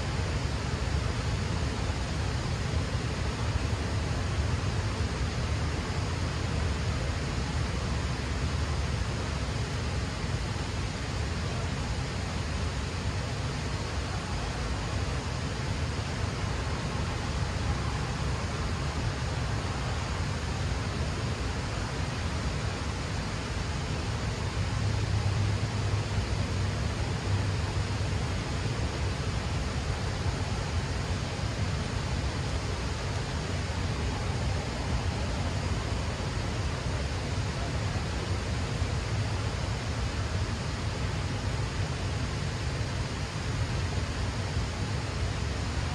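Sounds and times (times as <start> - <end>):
water rushing through dam gates: 0.0 - 45.9.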